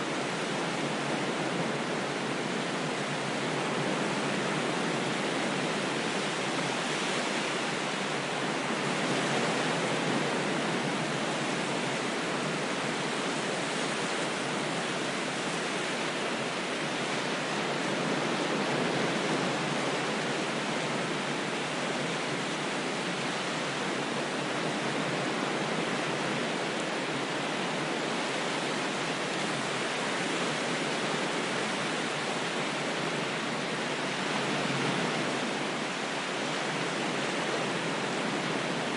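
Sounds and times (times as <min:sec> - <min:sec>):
ocean waves rushing: 0:00.0 - 0:38.9.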